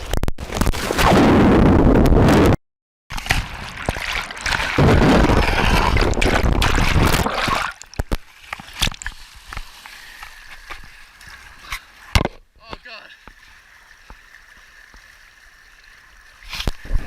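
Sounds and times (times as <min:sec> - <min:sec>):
stream running: 0:03.1 - 0:17.0.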